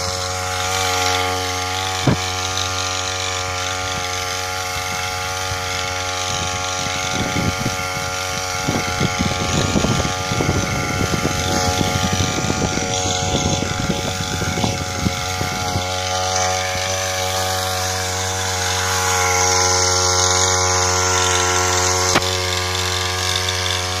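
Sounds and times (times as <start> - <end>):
power sprayer engine running: 0.0 - 24.0.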